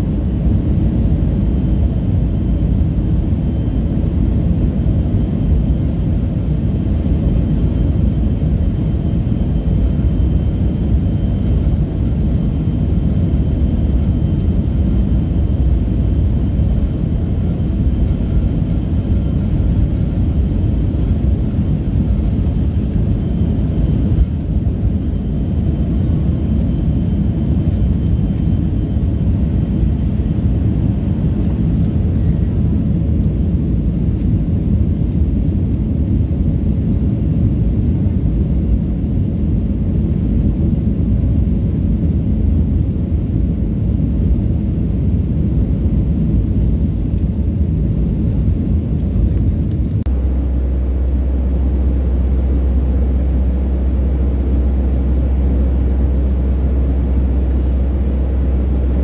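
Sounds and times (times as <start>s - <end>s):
jet engine high whine: 0.0s - 59.0s
jet engines low rumble: 0.0s - 59.0s.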